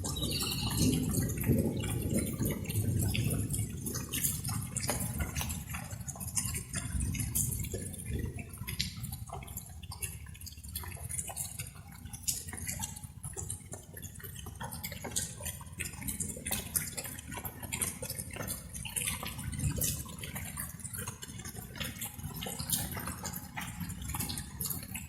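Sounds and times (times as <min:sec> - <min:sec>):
raindrops plinking and splashing: 0:00.0 - 0:25.0.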